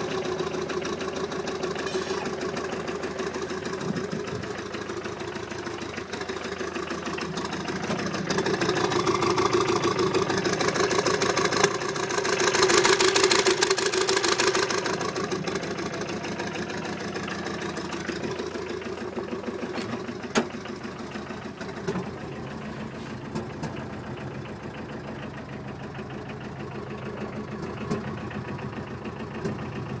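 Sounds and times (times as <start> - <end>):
turbo diesel engine running: 0.0 - 30.0.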